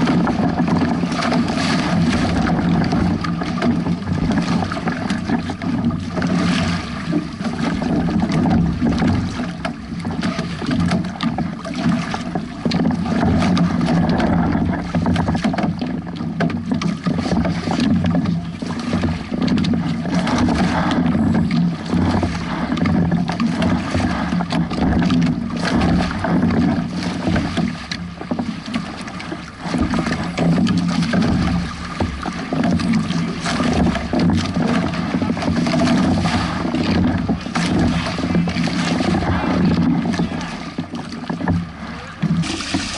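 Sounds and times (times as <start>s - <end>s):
water splashing against a hull: 0.0s - 42.9s.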